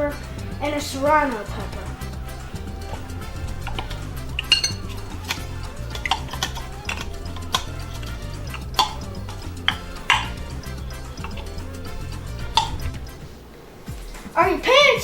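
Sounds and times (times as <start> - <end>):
background music with bass: 0.0 - 15.0
dishes and utensils clinking: 1.0 - 14.4.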